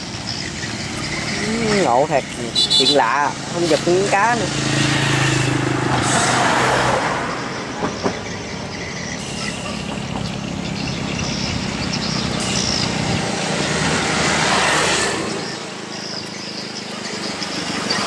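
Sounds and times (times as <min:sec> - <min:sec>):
traffic hum: 0:00.0 - 0:18.0
vehicle passing close: 0:00.0 - 0:18.0.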